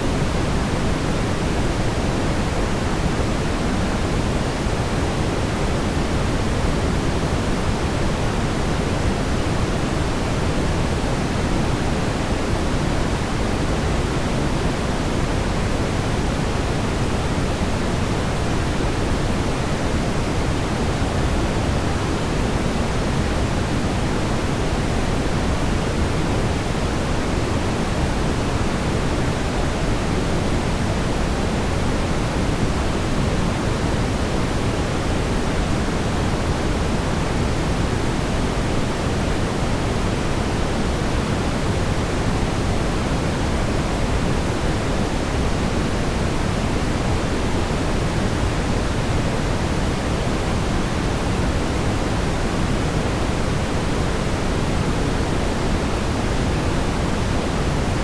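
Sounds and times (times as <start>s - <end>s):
brown noise rumbling hiss: 0.0s - 58.0s.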